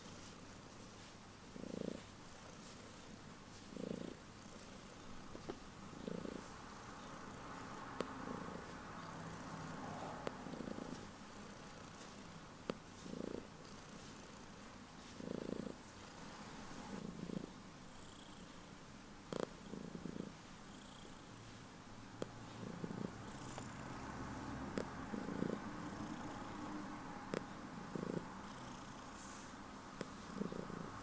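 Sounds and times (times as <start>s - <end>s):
cat purring: 0.0s - 21.3s, 22.1s - 31.0s.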